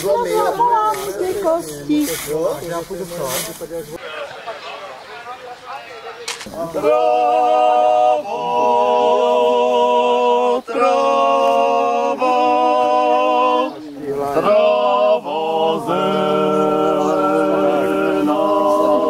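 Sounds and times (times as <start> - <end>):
group singing folk song: 0.0 - 4.0, 6.4 - 19.0.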